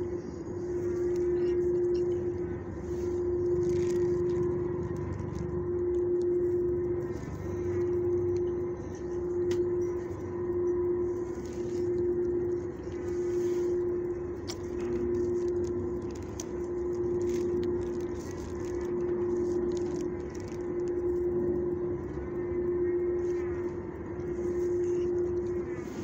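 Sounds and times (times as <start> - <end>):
pulsing machine hum: 0.0 - 26.0.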